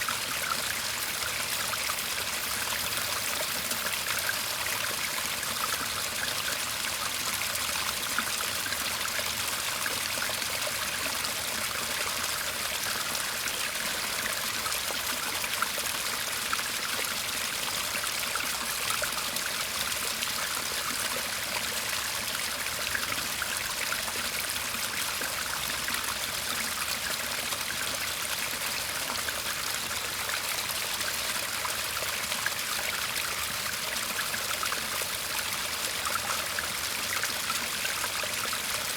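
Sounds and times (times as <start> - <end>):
stream murmuring: 0.0 - 38.9.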